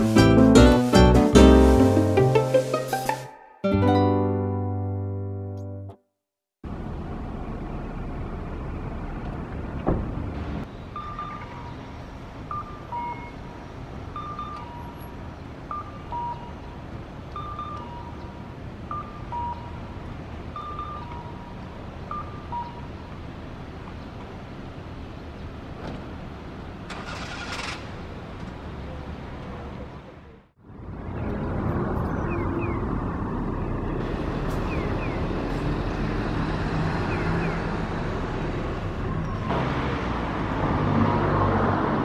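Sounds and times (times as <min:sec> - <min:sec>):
road traffic hum: 0:00.0 - 0:03.2, 0:06.6 - 0:42.0.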